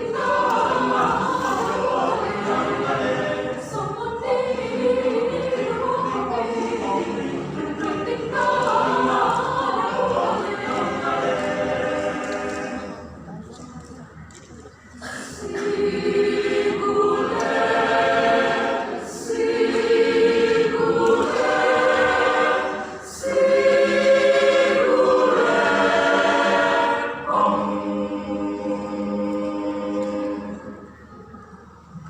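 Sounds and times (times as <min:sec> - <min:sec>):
choir singing in harmony: 0:00.0 - 0:13.4, 0:15.0 - 0:31.9.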